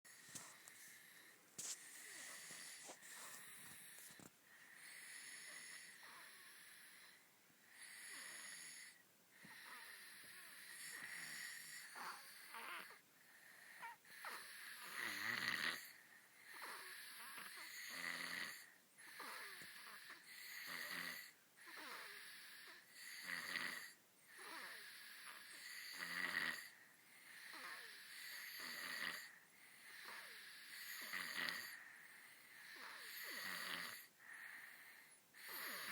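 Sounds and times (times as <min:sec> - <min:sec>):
toddlers snoring softly: 0:00.1 - 0:35.9.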